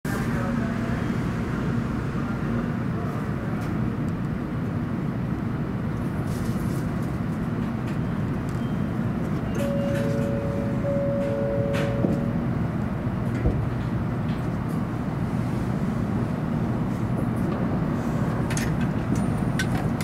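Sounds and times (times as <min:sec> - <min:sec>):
stationary train hum and rumble: 0:00.1 - 0:20.0.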